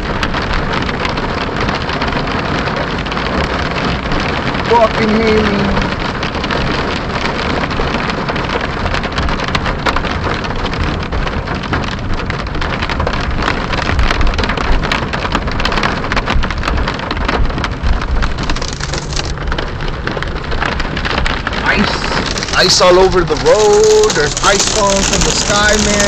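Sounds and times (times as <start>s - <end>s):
hailstones clattering: 0.0s - 26.0s.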